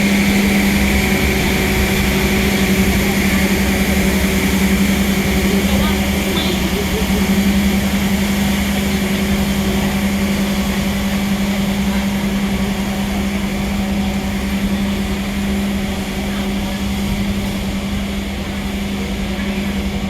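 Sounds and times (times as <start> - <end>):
railway carriage running noise: 0.0 - 20.0.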